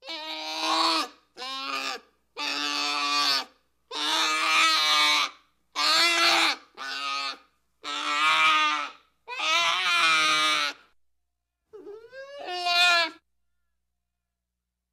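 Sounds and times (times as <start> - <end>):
bear cub bawling: 0.0 - 10.9, 11.8 - 13.2.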